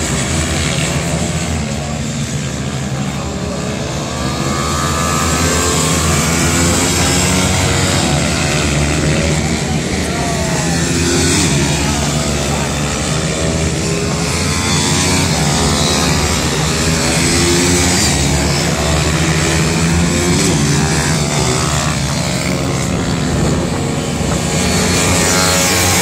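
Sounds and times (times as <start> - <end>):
pit bike engines racing: 0.0 - 26.0.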